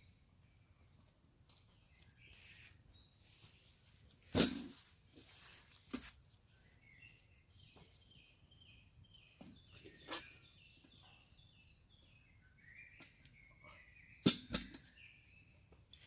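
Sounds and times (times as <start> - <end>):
small bird chirping: 0.0 - 4.0, 6.4 - 16.0.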